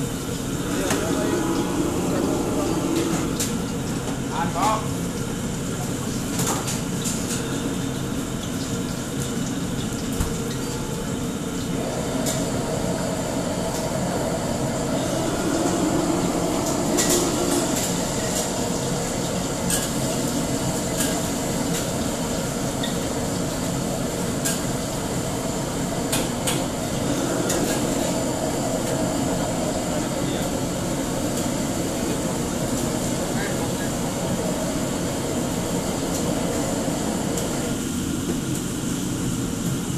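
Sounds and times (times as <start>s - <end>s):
wok burners and extraction hood roar: 0.0s - 39.9s.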